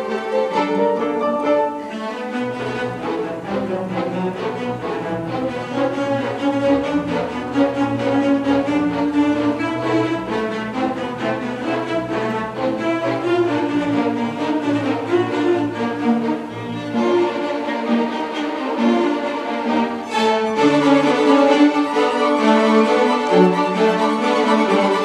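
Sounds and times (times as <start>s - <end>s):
string orchestra playing: 0.0s - 25.0s.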